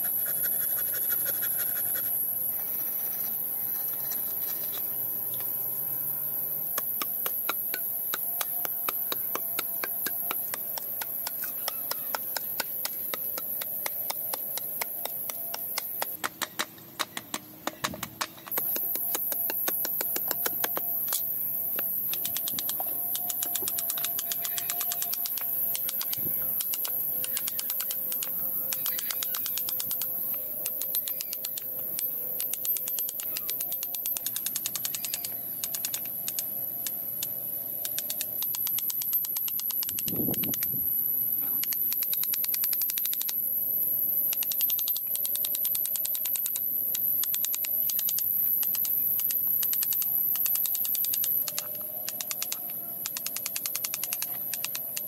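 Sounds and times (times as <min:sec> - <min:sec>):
steady high whine: 0:00.0 - 0:55.0.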